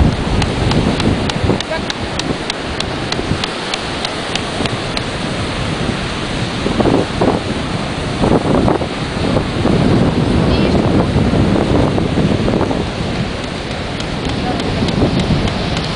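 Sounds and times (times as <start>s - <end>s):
surf breaking on beach: 0.0s - 15.9s
wind buffeting microphone: 0.0s - 15.9s.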